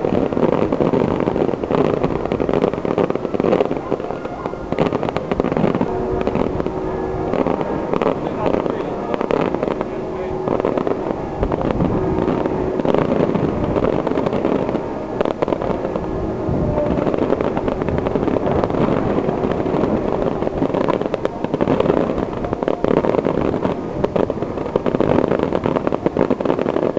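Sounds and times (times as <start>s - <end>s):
fireworks rattle of reports: 0.0s - 26.9s
sharp firework bang: 0.0s - 26.9s.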